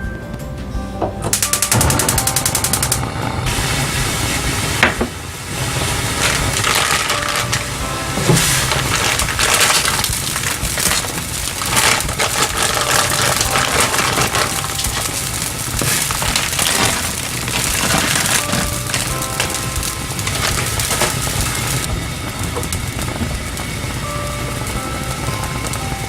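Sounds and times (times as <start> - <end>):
faint background music: 0.0 - 26.0.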